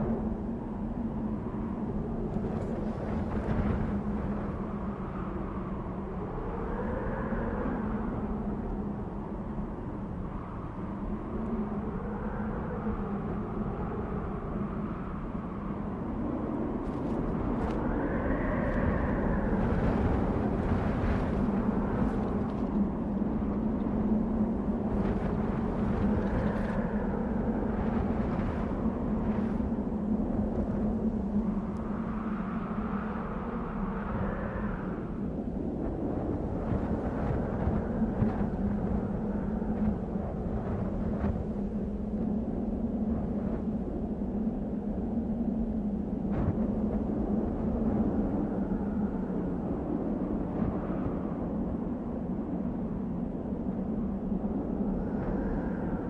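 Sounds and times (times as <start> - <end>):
wind howling in gusts: 0.0 - 56.0.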